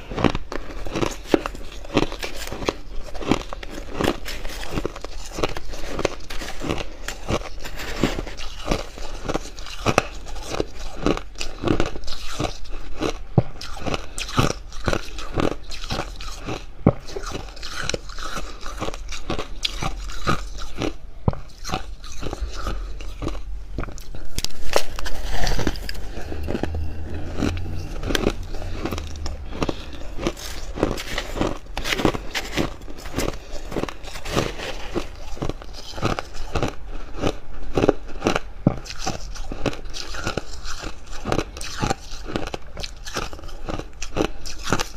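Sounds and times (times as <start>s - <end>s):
chewing crunchy frost: 0.0s - 44.9s.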